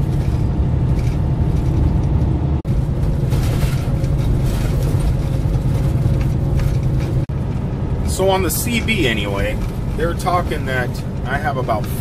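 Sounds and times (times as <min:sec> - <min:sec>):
diesel truck engine running: 0:00.0 - 0:12.0
road and tyre noise: 0:00.0 - 0:12.0.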